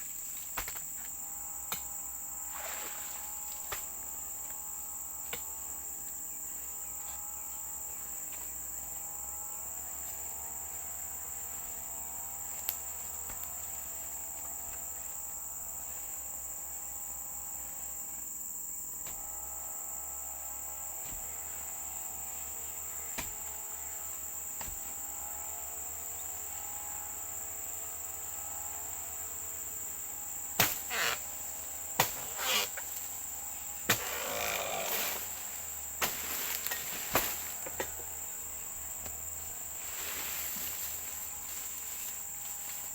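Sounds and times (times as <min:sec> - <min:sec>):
insects chirping chorus: 0:00.0 - 0:42.9.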